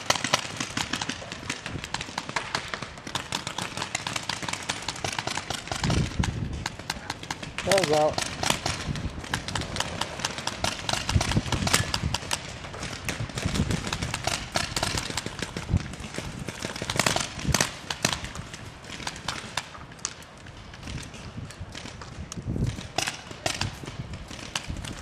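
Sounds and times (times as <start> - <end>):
paintball markers firing: 0.0 - 25.0.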